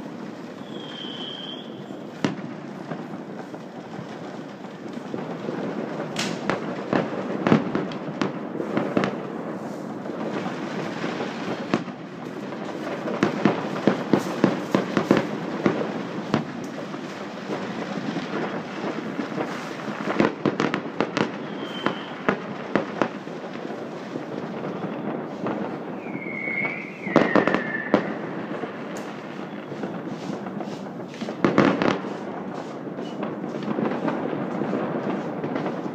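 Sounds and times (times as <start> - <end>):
fireworks bangs: 0.0 - 35.9
fireworks rumble and crackle: 0.0 - 35.9.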